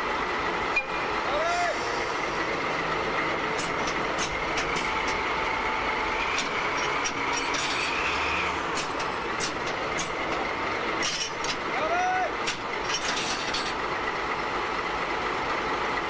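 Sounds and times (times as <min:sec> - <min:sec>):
diesel locomotive running: 0:00.0 - 0:16.0.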